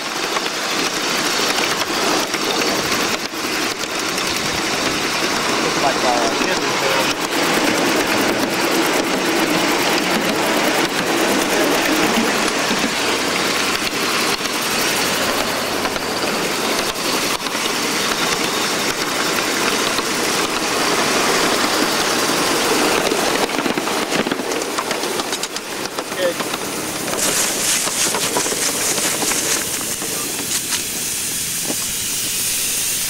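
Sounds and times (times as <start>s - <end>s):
steam locomotive hissing and ticking: 0.0s - 33.0s.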